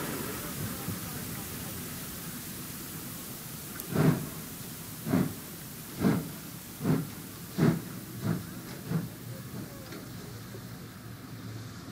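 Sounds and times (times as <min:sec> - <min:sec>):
steam locomotive exhaust chuffs: 0:00.0 - 0:11.4
steady steam hiss: 0:00.0 - 0:11.9.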